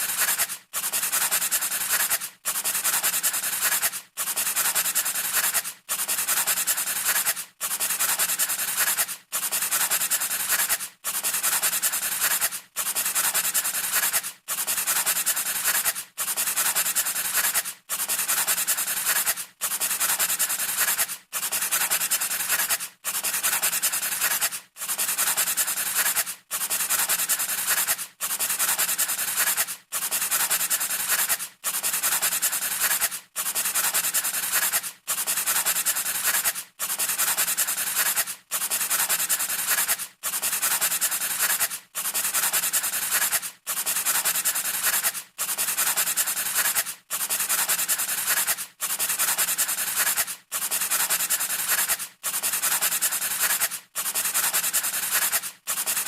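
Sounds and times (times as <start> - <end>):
pencil scratching on paper: 0.0 - 56.0.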